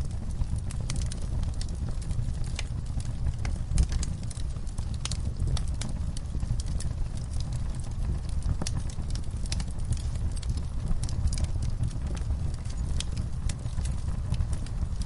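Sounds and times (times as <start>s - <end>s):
burning wood crackling: 0.0s - 15.0s
low rumble of flames: 0.0s - 15.0s.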